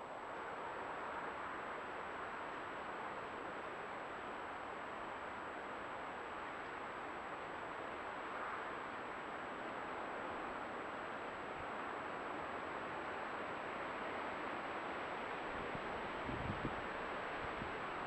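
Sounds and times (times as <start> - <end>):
microphone self-noise hiss: 0.0 - 18.0.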